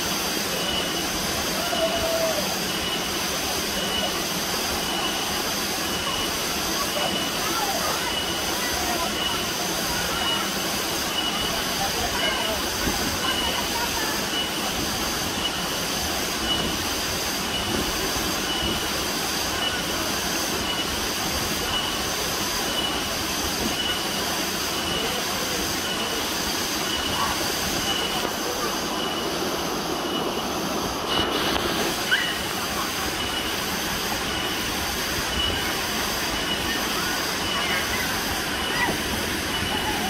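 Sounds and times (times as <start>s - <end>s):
thin high pulse: 0.0s - 40.0s
waterfall rushing: 0.0s - 40.0s.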